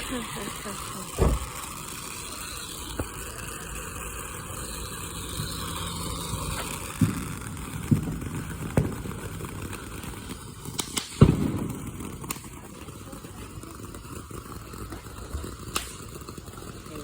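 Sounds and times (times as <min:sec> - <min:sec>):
firecrackers popping: 0:00.0 - 0:17.0.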